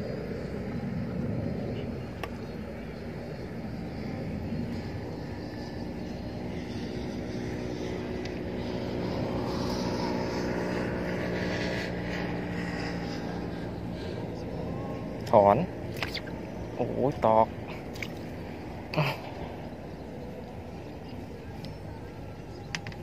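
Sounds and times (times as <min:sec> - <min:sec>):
engine drone: 0:00.0 - 0:23.0
wind rumbling on microphone: 0:00.0 - 0:23.0.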